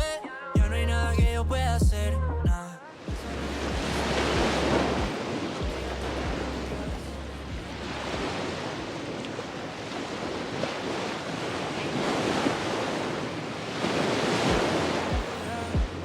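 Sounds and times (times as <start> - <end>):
sea waves washing ashore: 2.8 - 16.0
wind buffeting microphone: 3.1 - 16.0.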